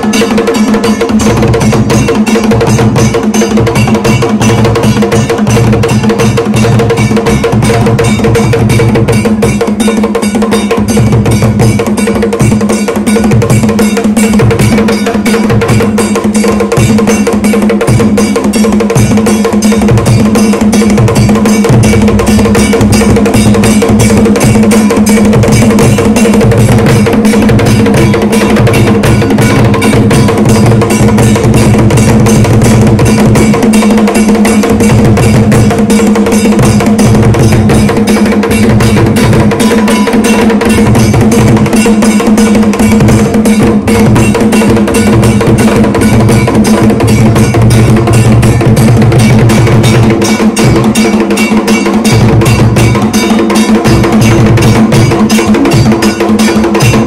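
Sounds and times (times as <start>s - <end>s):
clacking percussion: 0.0s - 57.0s
fast drumming: 0.0s - 57.0s.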